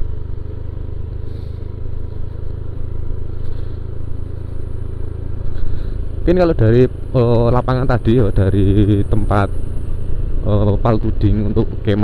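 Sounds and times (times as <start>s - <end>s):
road noise: 0.0s - 12.0s
scooter engine rumble: 0.0s - 12.0s
wind: 0.0s - 12.0s.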